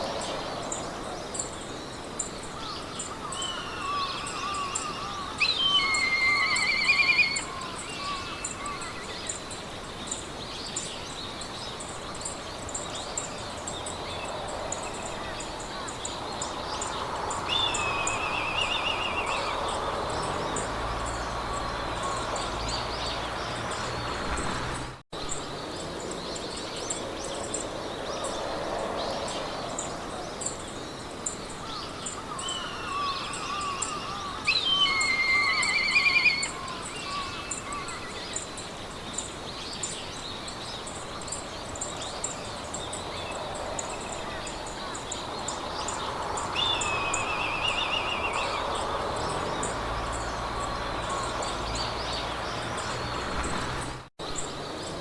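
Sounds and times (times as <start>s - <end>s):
songbirds chirping: 0.0s - 55.0s
wind in grass: 0.0s - 55.0s.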